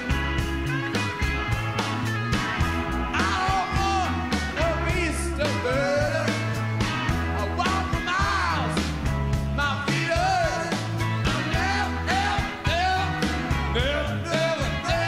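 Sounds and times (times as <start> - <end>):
song with vocals bass and drums: 0.0 - 15.0.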